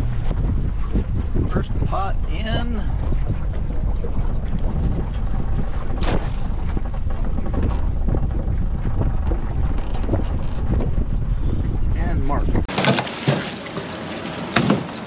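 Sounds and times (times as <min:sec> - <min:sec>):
wind rumble on microphone: 0:00.0 - 0:12.7.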